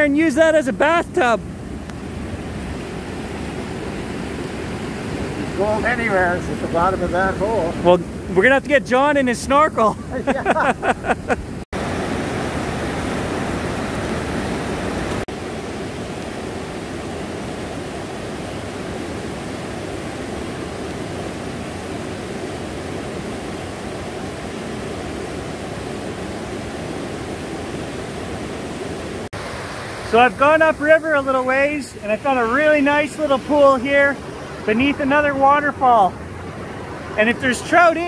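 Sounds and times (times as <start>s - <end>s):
waterfall rushing: 0.0s - 10.7s, 11.8s - 38.0s.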